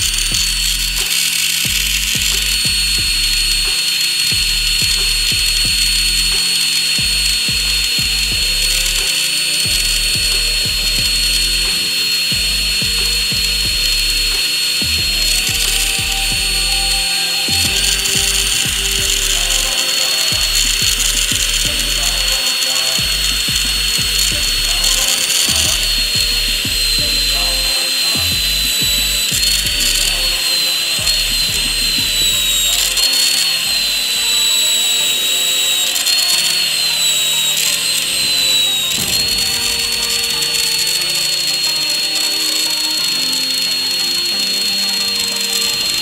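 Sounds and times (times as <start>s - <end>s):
electric drill whining: 0.0s - 46.0s
metal part polished on buffing wheel: 0.0s - 46.0s.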